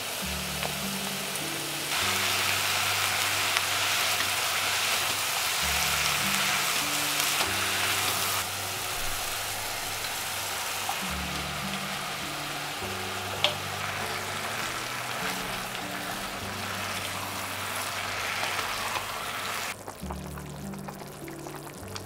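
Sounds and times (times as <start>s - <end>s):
broth bubbling: 0.0s - 22.0s
meat and vegetables sizzling: 0.0s - 22.0s
soft background music: 0.0s - 22.0s.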